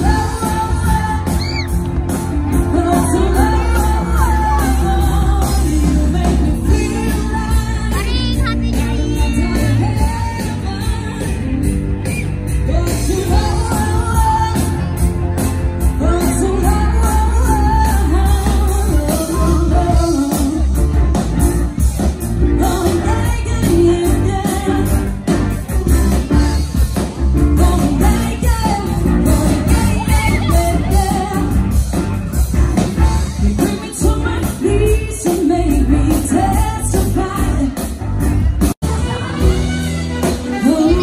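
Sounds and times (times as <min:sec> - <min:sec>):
woman singing lead: 0:00.0 - 0:21.3, 0:22.0 - 0:26.7, 0:27.4 - 0:32.0, 0:33.1 - 0:38.3, 0:38.9 - 0:41.0
drums: 0:00.0 - 0:41.0
electric guitars: 0:00.0 - 0:41.0.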